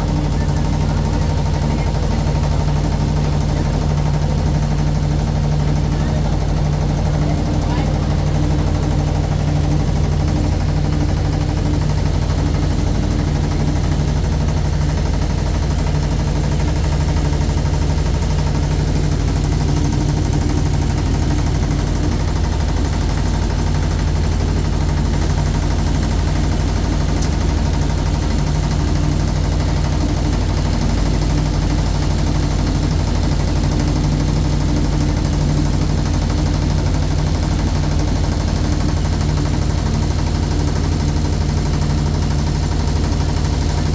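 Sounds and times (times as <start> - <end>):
motorboat engine running: 0.0 - 43.9.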